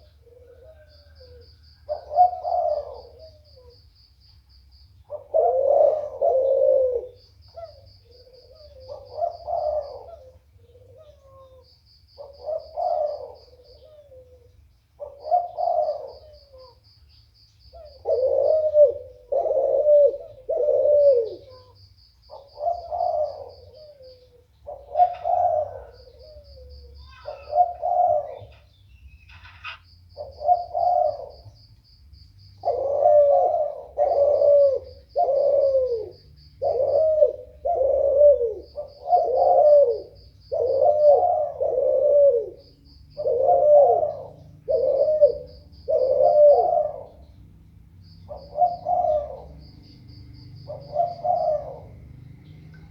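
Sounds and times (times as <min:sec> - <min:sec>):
dove cooing: 0:00.0 - 0:03.9, 0:05.0 - 0:16.9, 0:17.7 - 0:31.7, 0:32.6 - 0:52.9.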